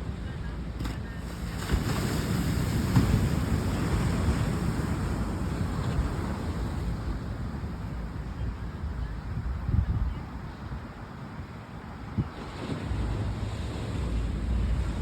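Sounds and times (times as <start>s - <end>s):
ocean surf: 0.0s - 9.6s, 10.3s - 15.0s
wind buffeting microphone: 0.0s - 15.0s.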